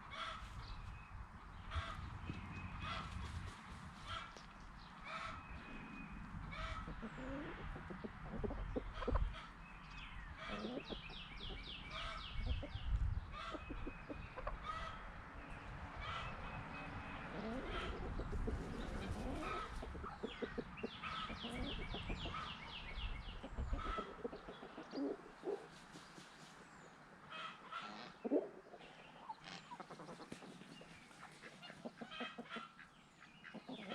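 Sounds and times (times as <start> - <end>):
chickens clucking: 1.7 - 33.9.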